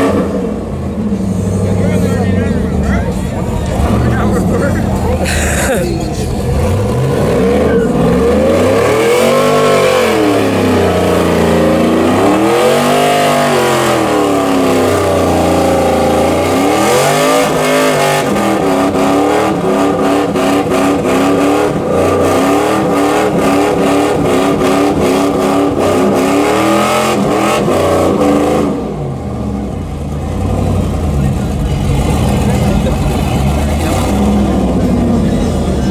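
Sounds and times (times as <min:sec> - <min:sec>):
vehicle engine revving: 0:00.0 - 0:35.9.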